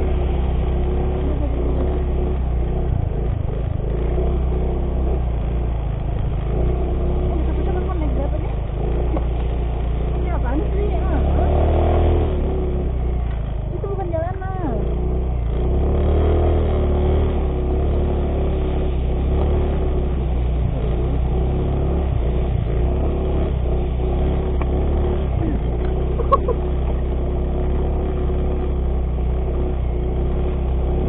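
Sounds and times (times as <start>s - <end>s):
scooter engine running: 0.0s - 31.0s.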